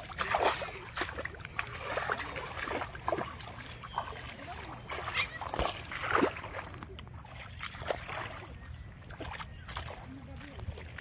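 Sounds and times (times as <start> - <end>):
muddy water splashing: 0.0 - 11.0.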